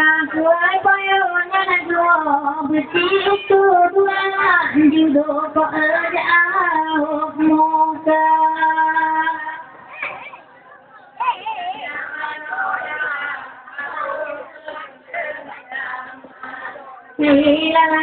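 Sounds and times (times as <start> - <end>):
women singing slow song: 0.0 - 10.0, 11.8 - 18.0.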